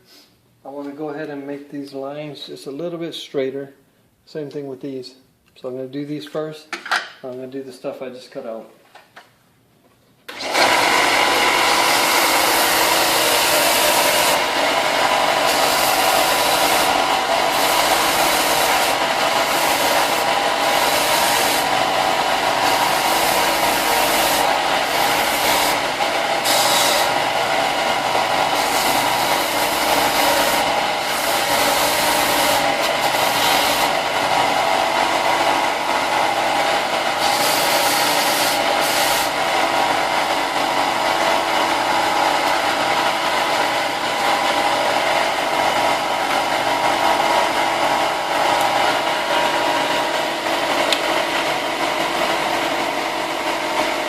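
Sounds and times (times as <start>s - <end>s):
power sander grinding plastic: 10.3s - 54.0s.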